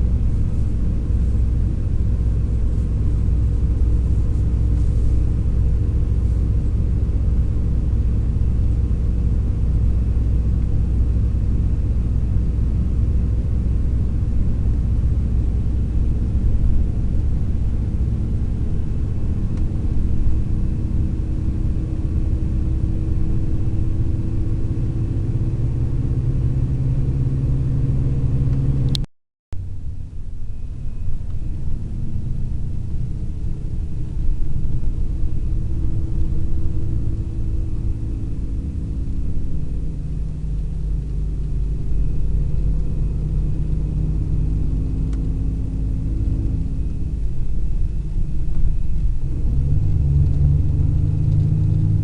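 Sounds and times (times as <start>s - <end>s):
coach engine and road rumble: 0.0s - 52.0s.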